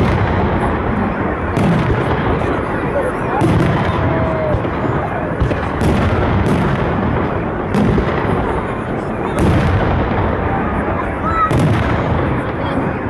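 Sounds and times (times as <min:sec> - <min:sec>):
dense steady din: 0:00.0 - 0:13.0.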